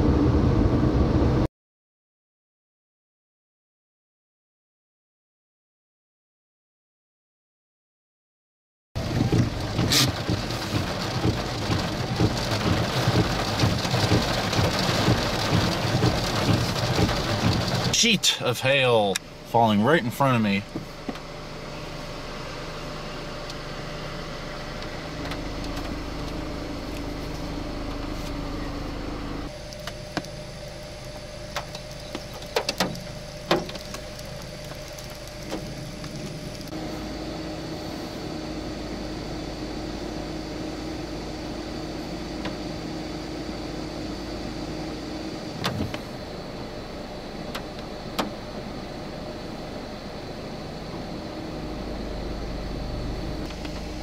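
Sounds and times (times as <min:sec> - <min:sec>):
vehicle engine idling: 0:09.0 - 0:54.0.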